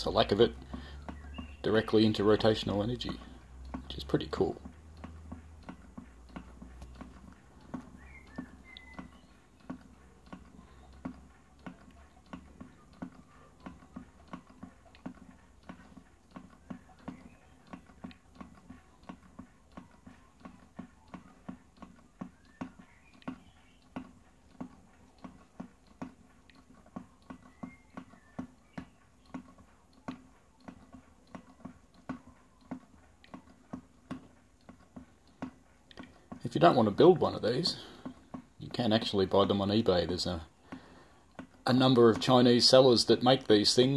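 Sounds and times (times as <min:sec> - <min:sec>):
engine mechanism ticking: 0:00.0 - 0:43.9.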